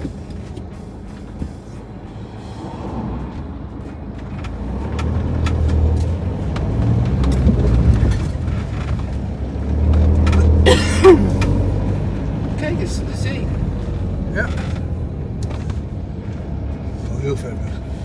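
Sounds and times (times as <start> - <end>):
van engine and road noise: 0.0 - 18.0.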